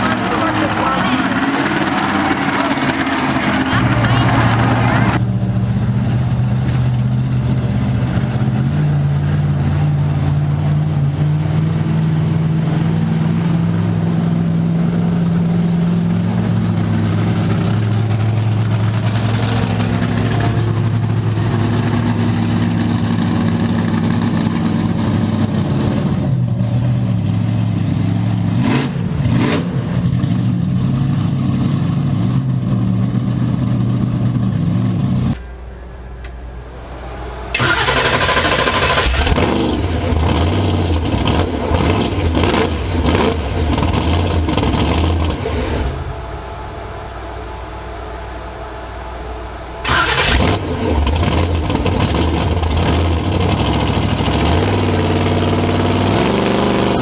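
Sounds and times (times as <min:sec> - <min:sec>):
monster truck engine revving: 0:00.0 - 0:35.4, 0:36.8 - 0:57.0.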